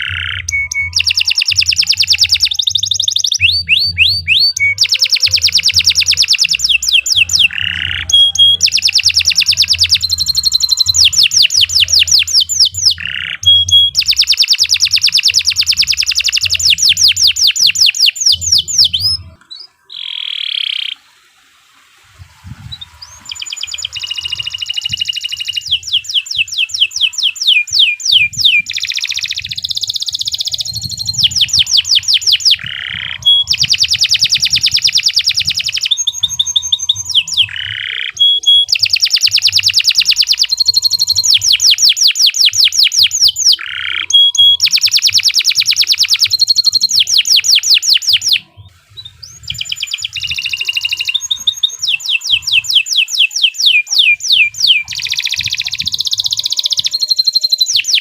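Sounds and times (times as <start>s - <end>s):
canary singing trills: 0.0s - 21.1s, 22.7s - 58.0s.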